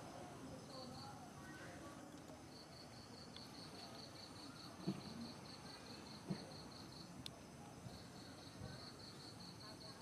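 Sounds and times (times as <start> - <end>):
insect chirping: 0.0 - 10.0.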